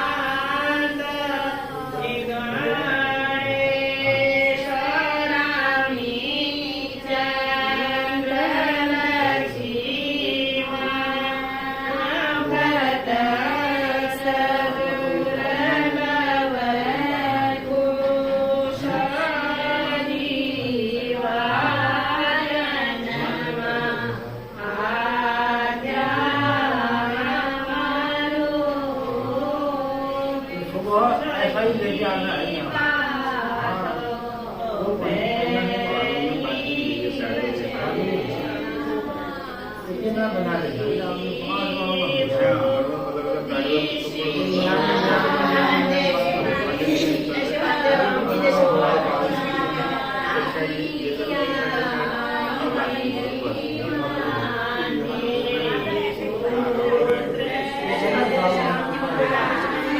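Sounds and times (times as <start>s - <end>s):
voices chanting: 0.0s - 59.9s.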